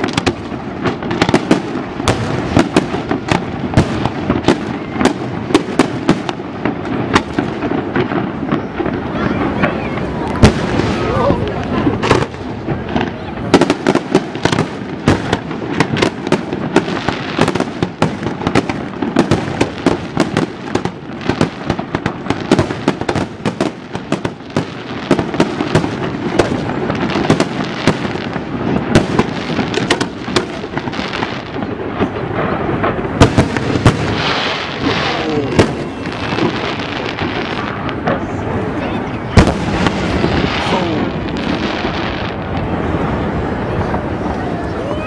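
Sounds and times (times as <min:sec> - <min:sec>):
fireworks bangs: 0:00.0 - 0:45.0
fireworks crackle and rumble: 0:00.0 - 0:45.0.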